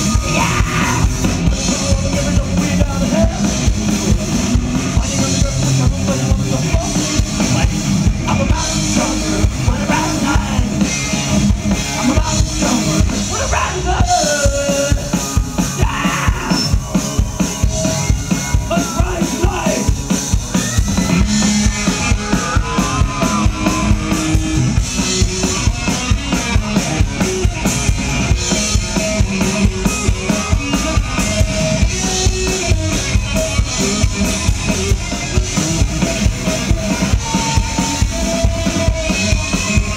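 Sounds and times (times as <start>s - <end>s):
drum kit beat: 0.0s - 39.9s
rock band playing: 0.0s - 39.9s.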